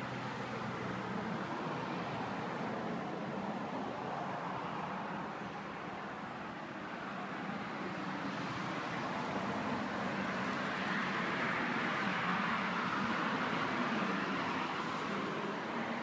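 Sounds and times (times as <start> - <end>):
distant road traffic hiss: 0.0 - 16.0.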